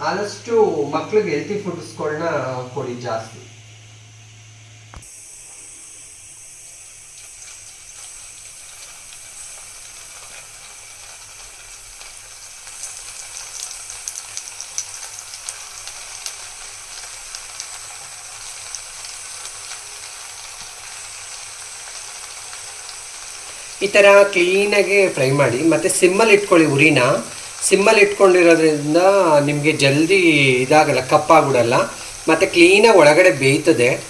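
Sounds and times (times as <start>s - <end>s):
food sizzling in hot oil: 0.0s - 34.0s
oil crackling and popping: 4.9s - 34.0s.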